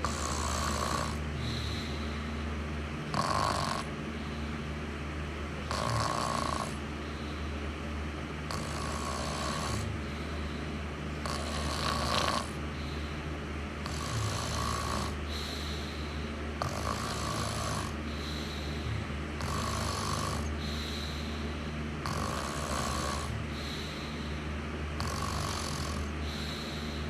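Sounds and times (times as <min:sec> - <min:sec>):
person snoring: 0:00.0 - 0:02.5, 0:03.1 - 0:04.5, 0:05.6 - 0:07.5, 0:08.5 - 0:10.6, 0:11.2 - 0:13.2, 0:13.8 - 0:24.4, 0:25.0 - 0:27.0
steady low hum: 0:00.0 - 0:27.0.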